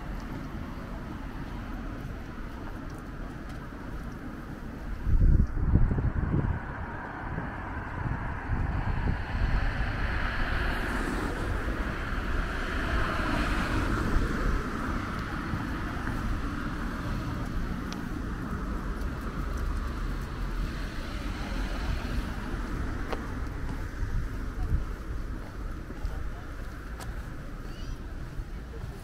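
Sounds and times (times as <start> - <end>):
car passing: 0.0 - 29.0
wind buffeting microphone: 1.5 - 29.0.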